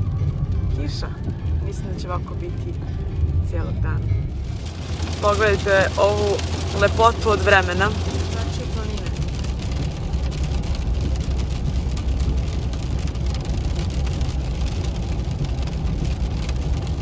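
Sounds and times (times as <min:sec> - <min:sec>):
rain pattering on car roof: 0:00.0 - 0:17.0
tyres rumbling on wet road: 0:00.0 - 0:17.0.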